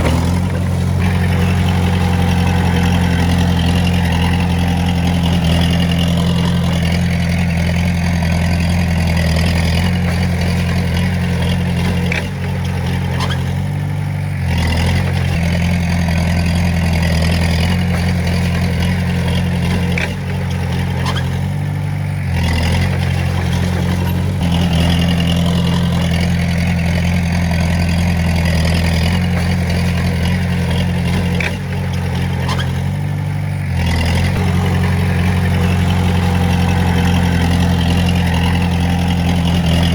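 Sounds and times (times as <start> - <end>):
bulldozer diesel engine working: 0.0 - 39.9.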